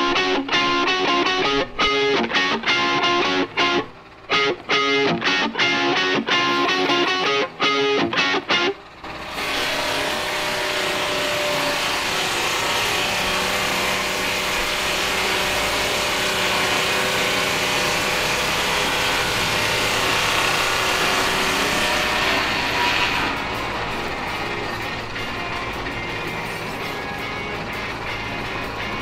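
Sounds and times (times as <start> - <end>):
faint motor hum: 0.0 - 29.0
circular saw cutting log: 0.1 - 29.0.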